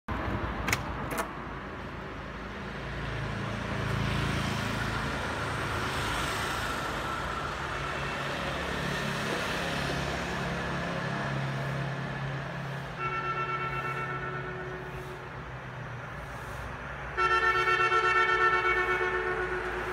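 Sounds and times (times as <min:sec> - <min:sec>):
traffic engine hum: 0:00.1 - 0:19.9
motorbikes passing: 0:01.7 - 0:19.9.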